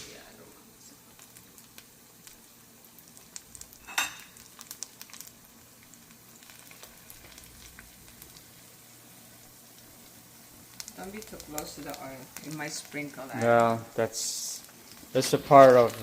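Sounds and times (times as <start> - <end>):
food sizzling in hot oil: 0.0 - 16.0
oil crackling: 0.0 - 16.0.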